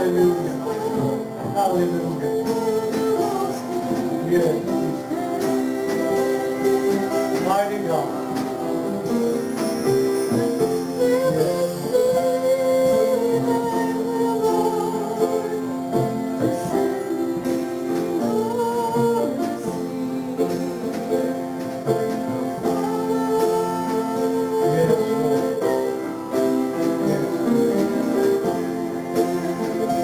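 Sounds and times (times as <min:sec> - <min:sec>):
hymn on guitar: 0:00.0 - 0:30.0
voices singing: 0:00.0 - 0:30.0.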